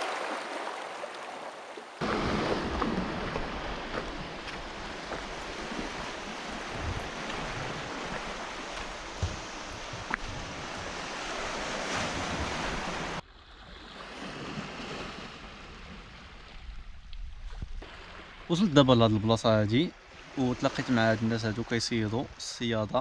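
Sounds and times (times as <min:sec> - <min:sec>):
wind and sea surf: 0:00.0 - 0:23.0.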